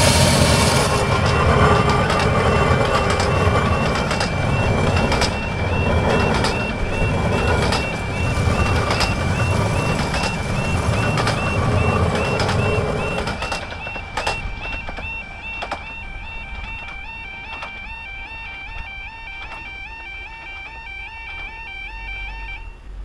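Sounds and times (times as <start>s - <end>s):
railway carriages rumbling: 0.0s - 19.8s
wheels clicking on rails: 0.0s - 21.8s
two-tone crossing alarm: 0.0s - 23.0s.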